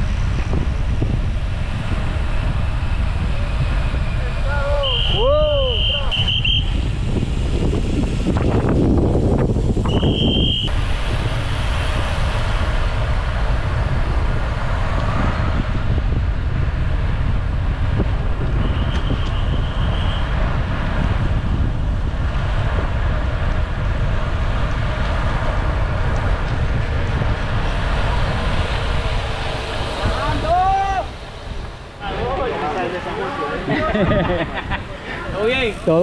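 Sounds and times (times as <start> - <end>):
road noise: 0.0 - 36.0
wind rumble on microphone: 0.0 - 36.0.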